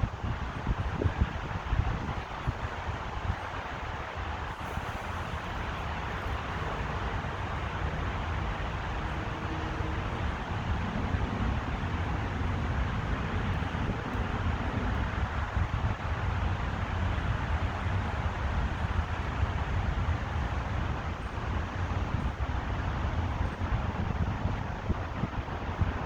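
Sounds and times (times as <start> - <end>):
road traffic noise: 0.0 - 26.0
wind rumbling on microphone: 0.0 - 26.0.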